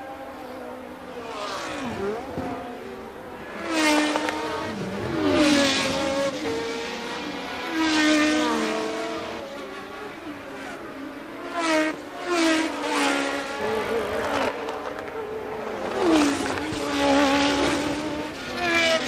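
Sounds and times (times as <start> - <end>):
racing cars passing: 0.0 - 19.0.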